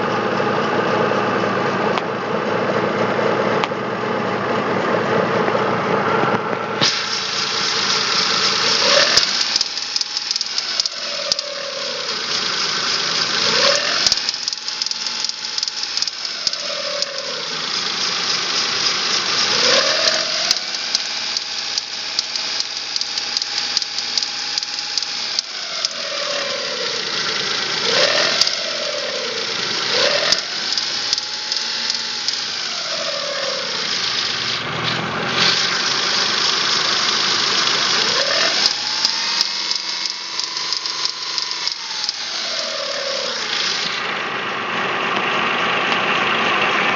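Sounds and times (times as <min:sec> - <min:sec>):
car engine revving: 0:00.0 - 0:46.9
engine knocking: 0:00.0 - 0:46.9.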